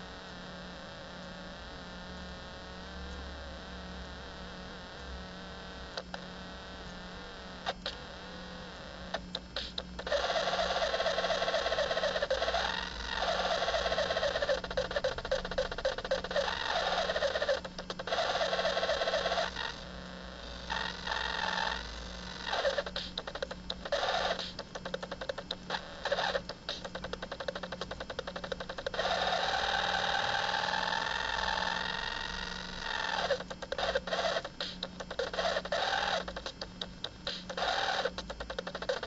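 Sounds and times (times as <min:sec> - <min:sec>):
glitchy stuttering electronic buzz: 0:00.0 - 0:39.0
low electronic hum: 0:00.0 - 0:39.0.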